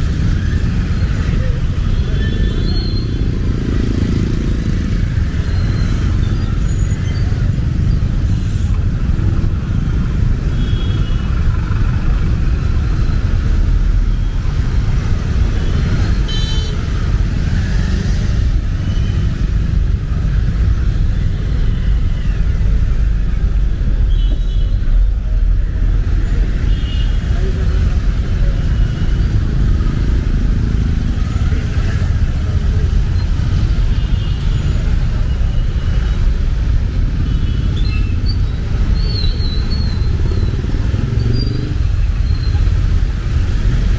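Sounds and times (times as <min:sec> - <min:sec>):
traffic engine rumble: 0:00.0 - 0:43.9.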